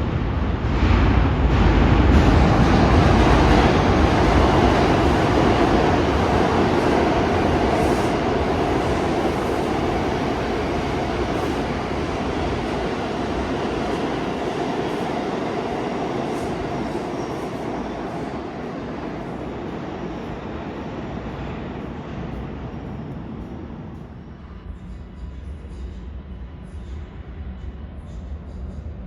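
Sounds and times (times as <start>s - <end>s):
subway train rumbling: 0.0s - 29.0s.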